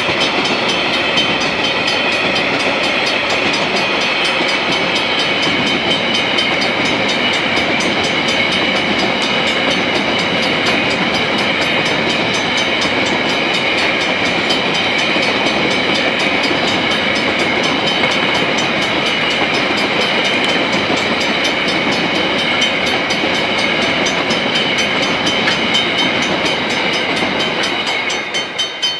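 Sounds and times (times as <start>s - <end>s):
high metallic ringing: 0.0s - 28.9s
train wheels rumbling on rails: 0.0s - 28.9s.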